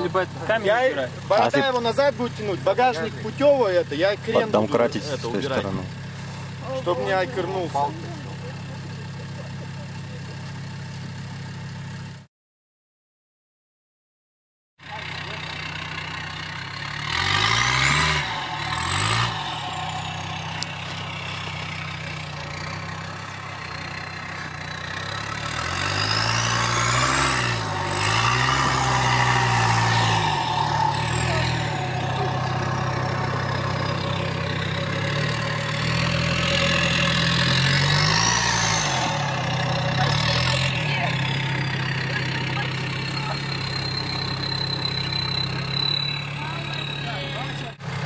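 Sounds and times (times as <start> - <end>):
suv engine revving: 0.0 - 12.0, 14.9 - 48.0.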